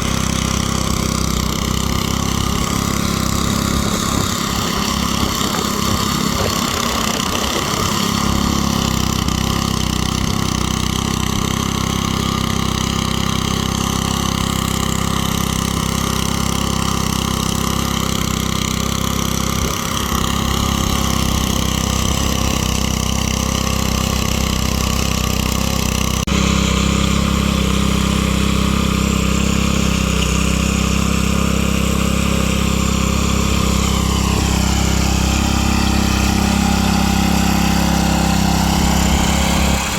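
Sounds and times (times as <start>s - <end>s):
garden tiller engine running: 0.0s - 39.9s.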